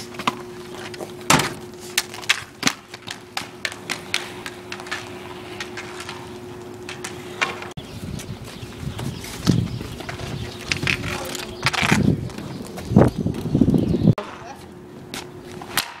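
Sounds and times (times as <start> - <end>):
hockey sticks clacking on asphalt: 0.0 - 7.8, 9.0 - 13.6, 15.1 - 16.0.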